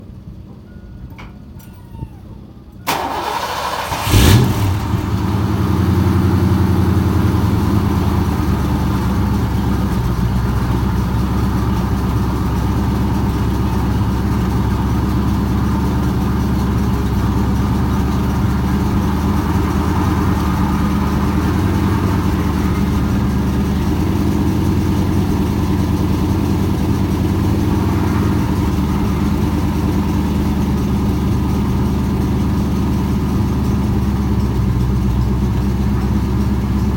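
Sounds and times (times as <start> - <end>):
car engine starting and idling: 0.0 - 36.9.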